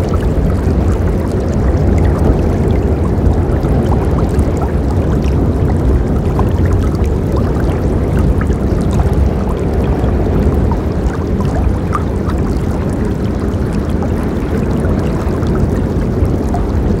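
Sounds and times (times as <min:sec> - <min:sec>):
river water rushing: 0:00.0 - 0:17.0
water splashing: 0:00.0 - 0:17.0.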